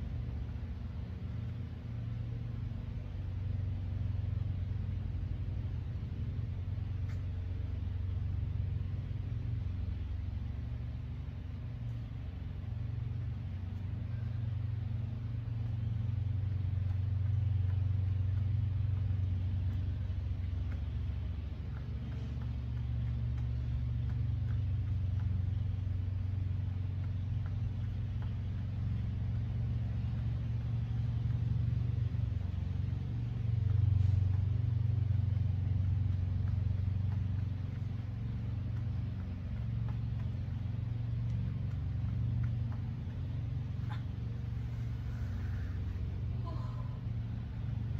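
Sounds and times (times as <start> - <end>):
low mechanical hum and rumble: 0.0 - 47.9.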